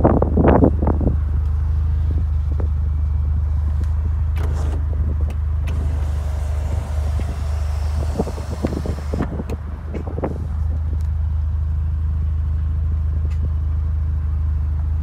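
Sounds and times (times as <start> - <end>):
car engine drone: 0.0 - 15.0.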